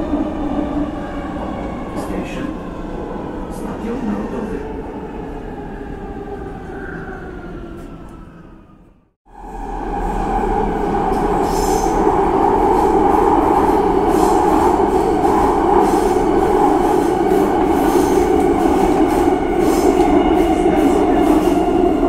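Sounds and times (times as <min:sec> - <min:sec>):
subway train rumbling in tunnel: 0:00.0 - 0:22.0.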